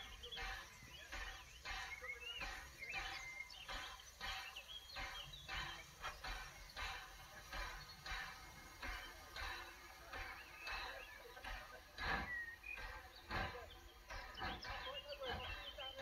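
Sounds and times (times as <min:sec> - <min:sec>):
bird chirping: 0:00.0 - 0:16.0
faint steam engine exhaust beats: 0:00.0 - 0:16.0.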